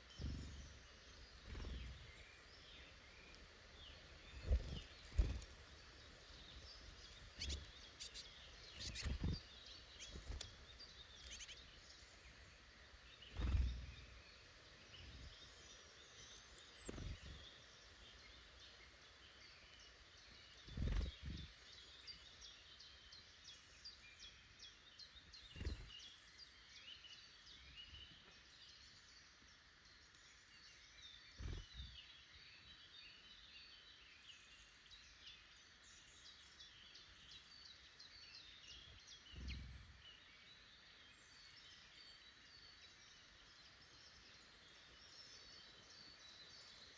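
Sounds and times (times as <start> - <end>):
small birds chirping and singing: 0.0 - 46.9.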